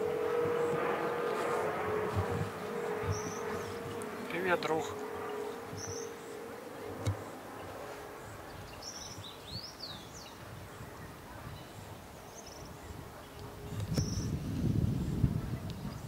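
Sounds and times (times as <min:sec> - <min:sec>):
low wind: 0:00.0 - 0:16.0.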